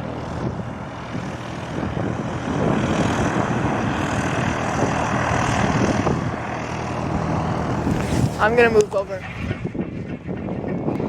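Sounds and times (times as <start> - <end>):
propeller aircraft engine: 0.0 - 11.0.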